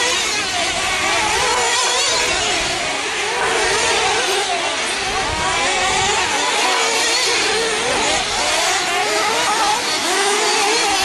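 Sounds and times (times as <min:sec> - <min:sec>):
rc car engines buzzing: 0:00.0 - 0:11.0.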